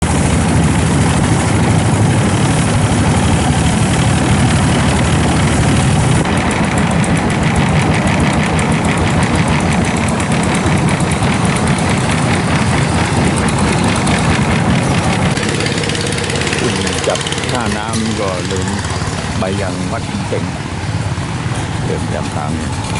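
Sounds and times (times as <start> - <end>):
boat engine running: 0.0 - 22.9
fast even engine pulsing: 0.0 - 22.9.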